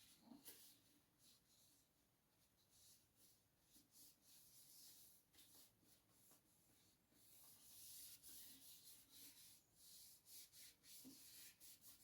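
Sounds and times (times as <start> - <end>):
faint rubbing strokes: 0.0 - 12.0.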